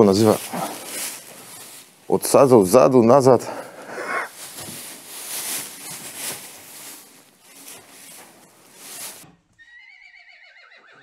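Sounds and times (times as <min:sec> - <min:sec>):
straw rustling under hooves: 0:00.0 - 0:09.9.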